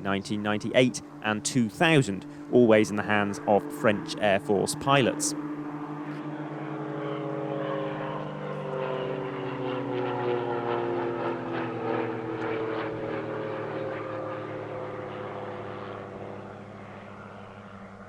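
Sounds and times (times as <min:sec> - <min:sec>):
propeller plane engines droning: 0:00.0 - 0:18.0.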